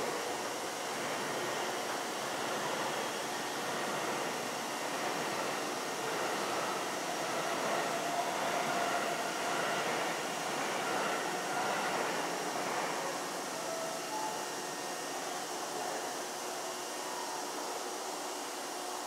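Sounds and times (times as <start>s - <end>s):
station platform rushing hum: 0.0s - 19.0s.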